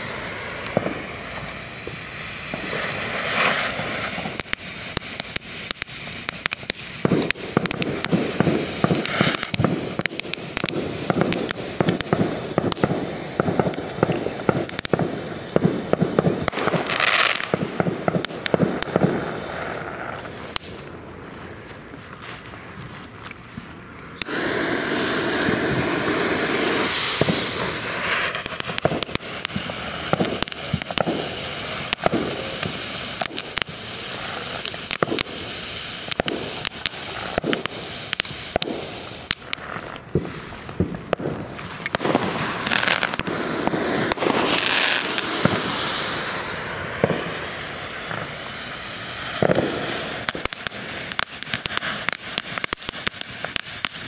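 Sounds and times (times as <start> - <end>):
firework fountain hissing: 0.0 - 23.2, 23.8 - 54.0
firework crackles and pops: 0.0 - 54.0.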